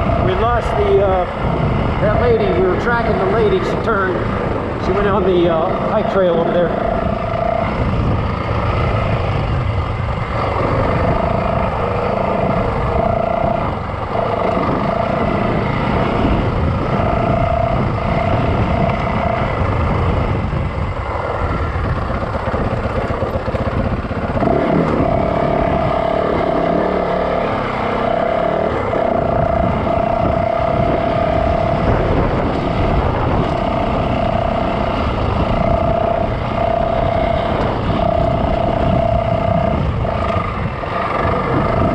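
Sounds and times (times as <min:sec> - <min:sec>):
dirt bike engine running: 0:00.0 - 0:41.9.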